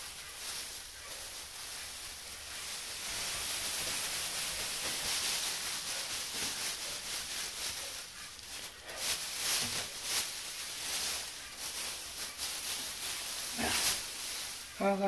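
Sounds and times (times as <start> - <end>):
dry hay rustling: 0.0 - 15.0.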